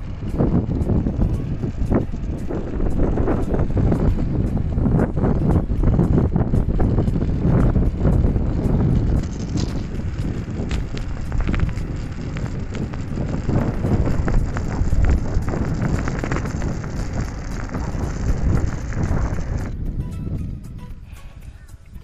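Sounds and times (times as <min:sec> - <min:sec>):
scooter clicks and rattles: 0:00.0 - 0:20.8
wind buffeting microphone: 0:00.0 - 0:22.0.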